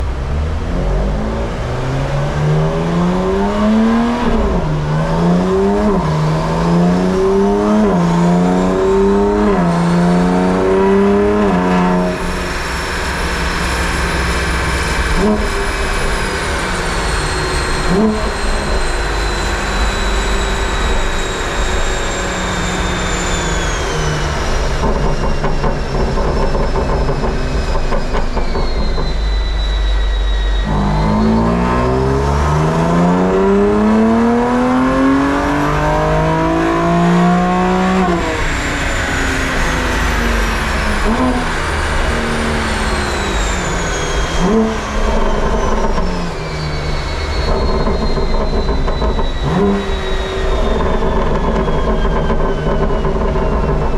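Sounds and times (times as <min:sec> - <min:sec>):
high whine: 0:00.0 - 0:53.9
turbo car engine on a dyno: 0:00.0 - 0:53.9.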